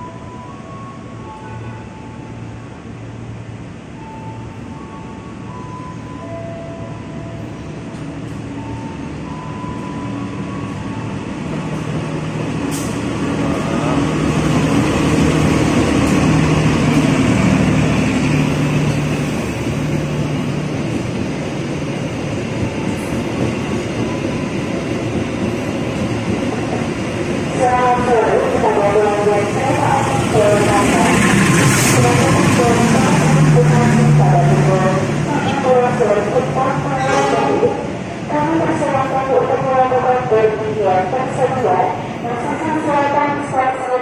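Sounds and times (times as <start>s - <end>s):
locomotive engine humming: 2.2s - 44.0s
train coaches rolling on rails: 4.2s - 44.0s.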